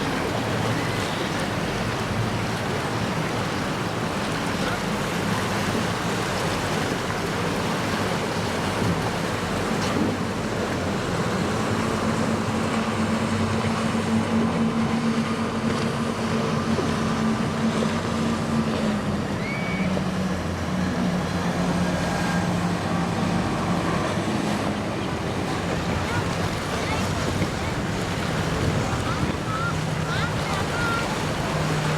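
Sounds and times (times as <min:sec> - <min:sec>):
boat engine drone: 0:00.0 - 0:31.9
wind and water rushing: 0:00.0 - 0:31.9.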